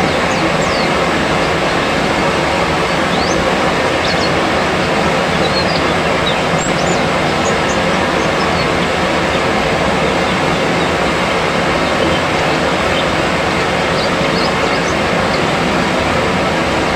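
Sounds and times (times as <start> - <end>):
birds chirping: 0.0 - 16.9
steady rushing noise: 0.0 - 16.9.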